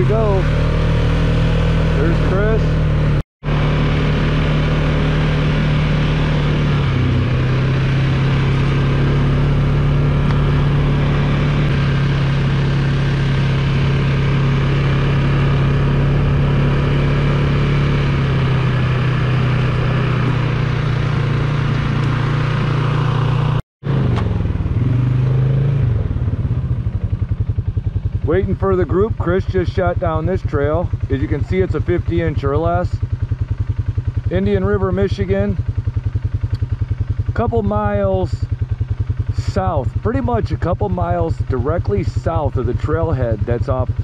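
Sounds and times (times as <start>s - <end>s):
single-cylinder engine running: 0.0s - 44.0s.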